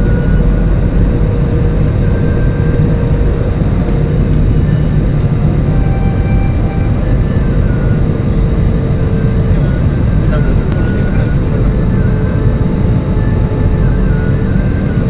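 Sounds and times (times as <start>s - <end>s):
faint steady whine: 0.0s - 15.0s
roar of engines and airflow: 0.0s - 15.0s.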